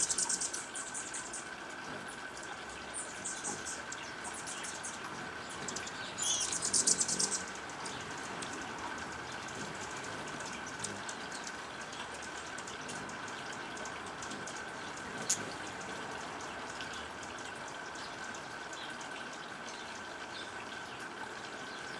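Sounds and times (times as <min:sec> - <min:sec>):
hummingbird chattering chips: 0:00.0 - 0:19.4.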